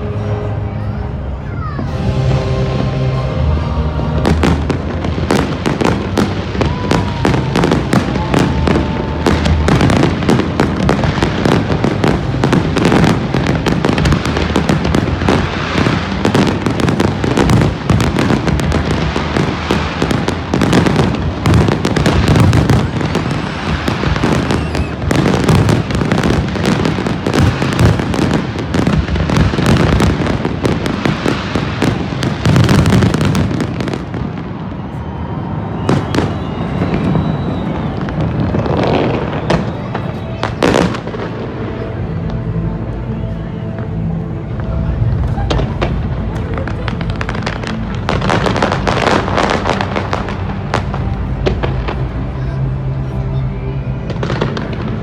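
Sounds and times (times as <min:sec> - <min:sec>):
aerial fireworks bursts and crackles: 0:01.8 - 0:42.5, 0:43.8 - 0:55.0.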